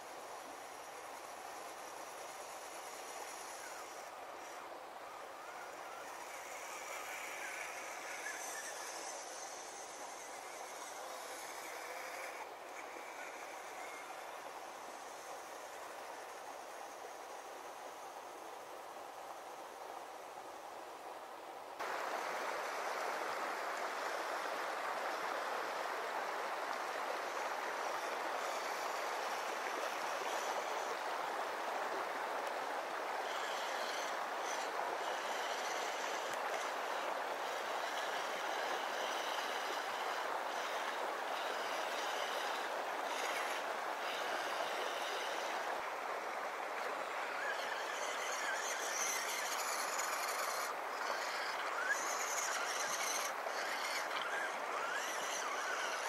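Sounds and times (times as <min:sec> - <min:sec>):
electric motor whine: 0:00.0 - 0:20.0, 0:21.8 - 0:56.0
river water flowing: 0:00.0 - 0:56.0.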